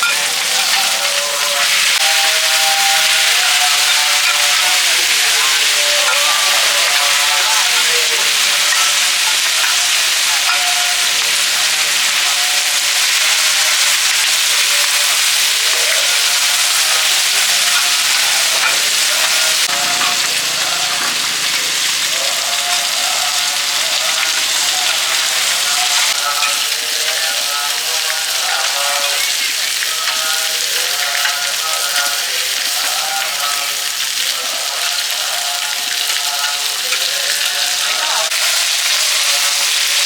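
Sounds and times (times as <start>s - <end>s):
hot oil sizzling in a pan: 0.0s - 40.0s.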